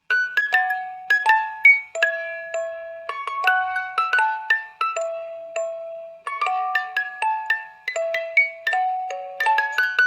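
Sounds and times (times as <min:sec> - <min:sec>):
music box melody: 0:00.0 - 0:10.0.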